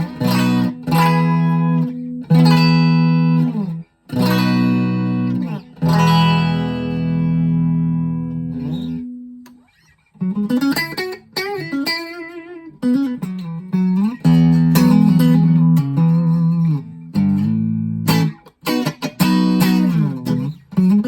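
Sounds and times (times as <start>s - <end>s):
clean electric guitar: 0.0s - 21.0s.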